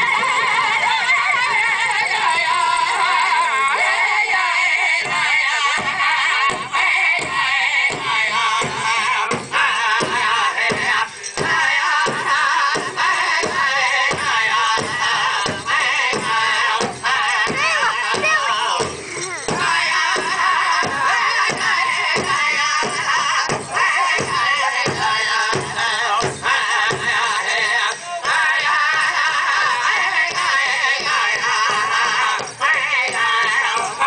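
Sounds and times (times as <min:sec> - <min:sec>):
group singing in wavering voices: 0:00.0 - 0:34.0
large drum beats: 0:05.0 - 0:34.0.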